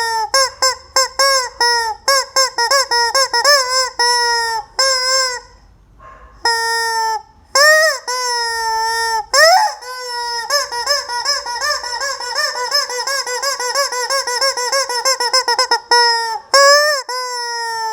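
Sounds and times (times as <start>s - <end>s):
squeaky toy squeaking: 0.0s - 5.7s, 6.4s - 17.9s.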